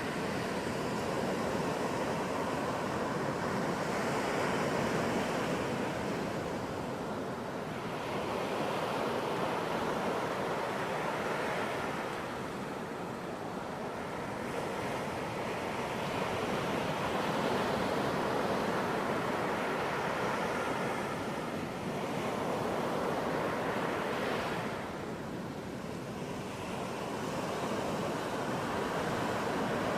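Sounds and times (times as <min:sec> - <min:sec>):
ocean waves breaking on beach: 0:00.0 - 0:29.9.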